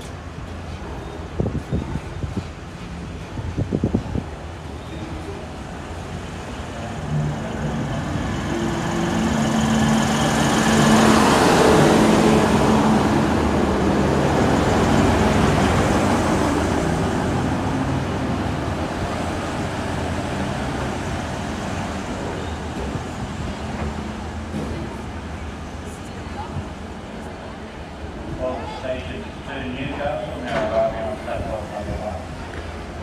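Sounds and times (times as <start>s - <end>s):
diesel railcar engine: 0.0s - 33.0s
rail noise: 0.0s - 33.0s.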